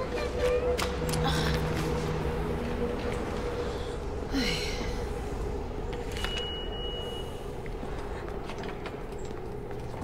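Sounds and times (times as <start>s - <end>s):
low rumble and hum: 0.0s - 10.0s.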